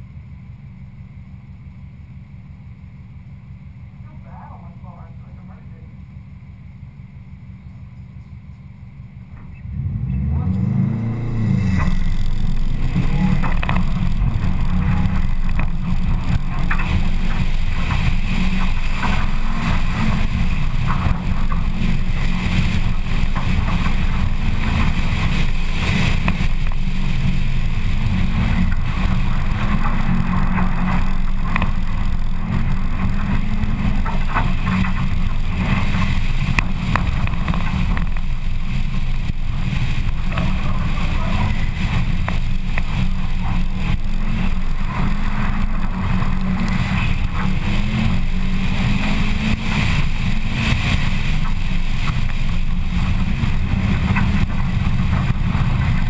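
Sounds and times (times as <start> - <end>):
tyres on gravel: 0.0 - 56.0
rally car engine revving: 3.6 - 56.0.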